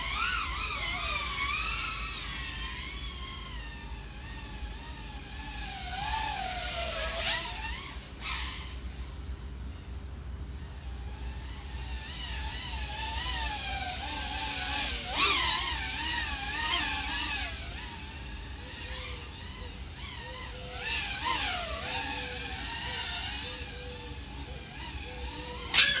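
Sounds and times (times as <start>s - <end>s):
quadcopter motors whining: 0.0s - 9.8s, 10.6s - 26.0s.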